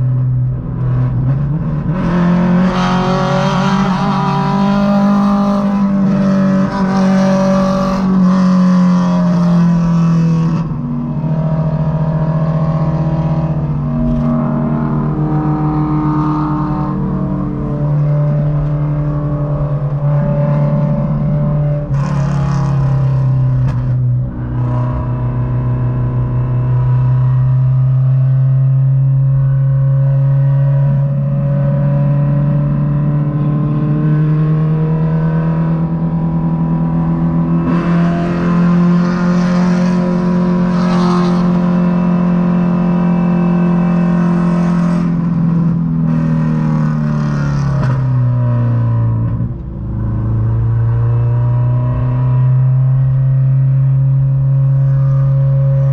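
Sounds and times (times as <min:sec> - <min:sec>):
car engine droning: 0:00.0 - 0:55.9
wind and road noise: 0:00.0 - 0:55.9.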